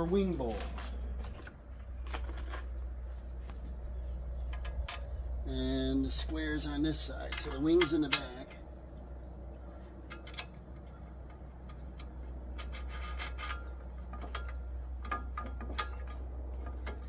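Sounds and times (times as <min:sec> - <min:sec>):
metal clicks and rubbing: 0:00.0 - 0:03.8, 0:04.4 - 0:05.3, 0:06.2 - 0:09.0, 0:09.6 - 0:17.0.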